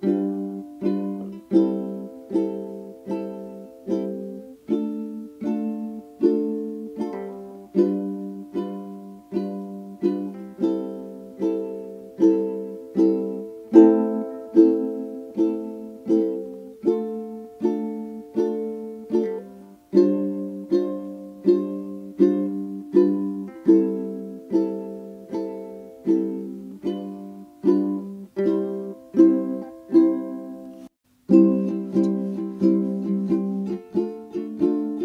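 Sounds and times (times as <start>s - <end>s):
plucked string instrument strumming: 0.0s - 35.0s.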